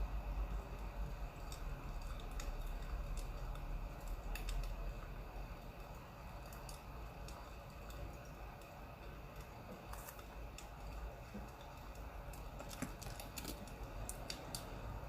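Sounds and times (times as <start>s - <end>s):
crackling wood fire: 0.0s - 15.0s.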